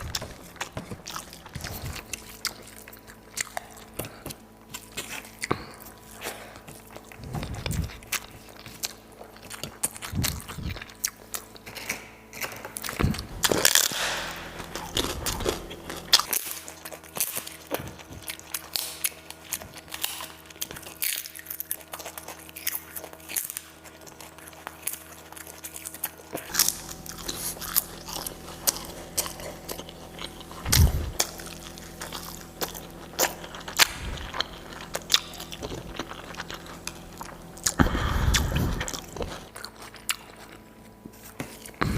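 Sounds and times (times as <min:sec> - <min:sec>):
chewing and crunchy bites: 0:00.0 - 0:41.9.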